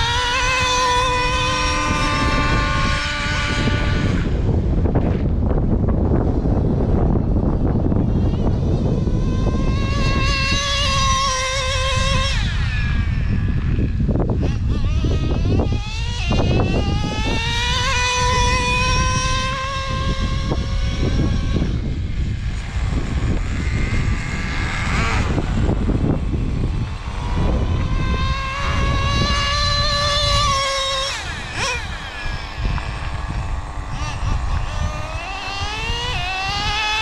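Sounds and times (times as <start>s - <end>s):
nitro engine revving: 0.0s - 37.0s.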